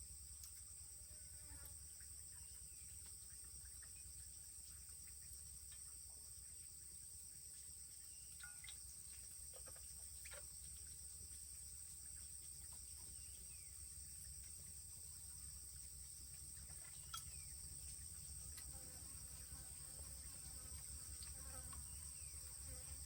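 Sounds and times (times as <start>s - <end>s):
faint chirps: 0.0s - 23.0s
insect drone: 0.0s - 23.0s.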